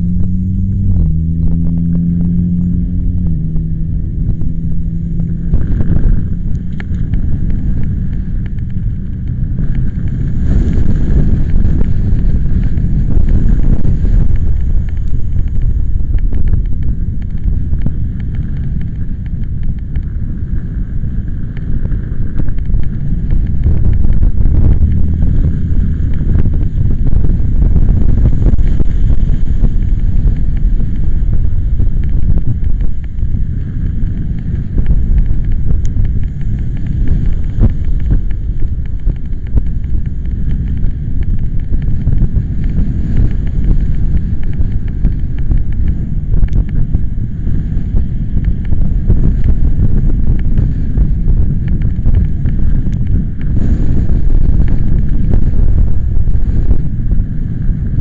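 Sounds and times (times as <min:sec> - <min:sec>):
storm wind buffeting microphone: 0:00.0 - 0:58.0.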